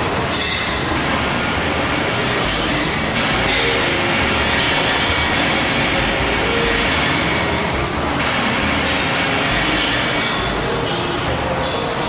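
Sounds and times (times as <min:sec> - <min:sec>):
industrial machine rumble: 0:00.0 - 0:12.0.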